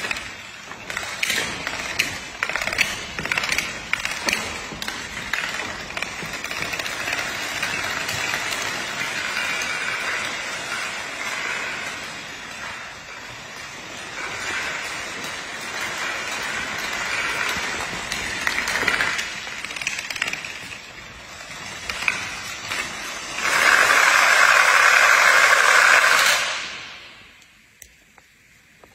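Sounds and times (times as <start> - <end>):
dominoes toppling: 0.0 - 27.7.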